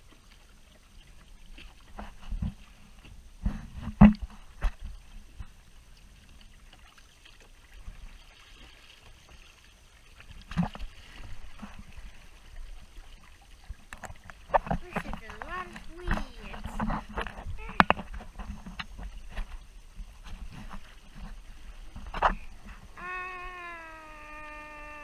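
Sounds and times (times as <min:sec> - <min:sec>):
kayak paddle in water: 0:00.0 - 0:25.0.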